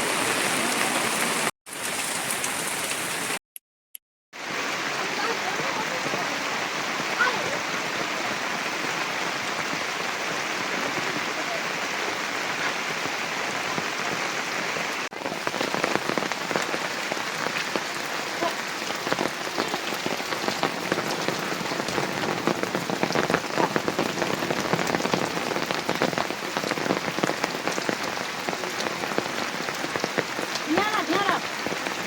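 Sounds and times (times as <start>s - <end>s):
heavy rain falling: 0.0s - 3.4s, 4.4s - 32.0s.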